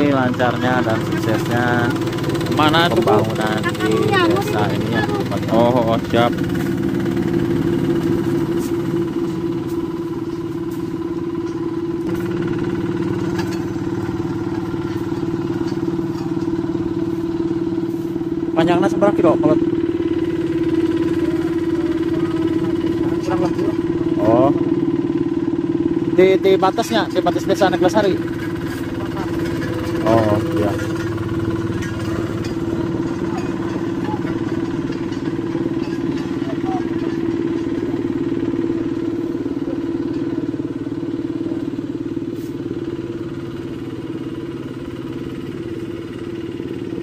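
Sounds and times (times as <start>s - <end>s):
road roller engine humming: 0.0s - 47.0s.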